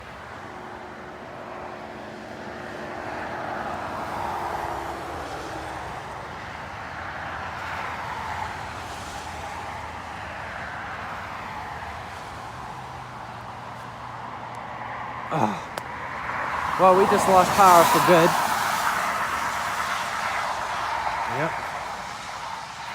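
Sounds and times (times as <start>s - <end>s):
road traffic passing: 0.0s - 22.9s.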